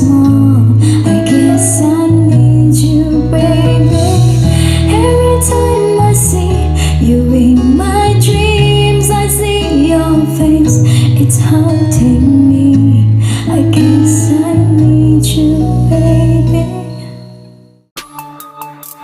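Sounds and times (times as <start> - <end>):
slow song with loud bass: 0.0 - 19.0.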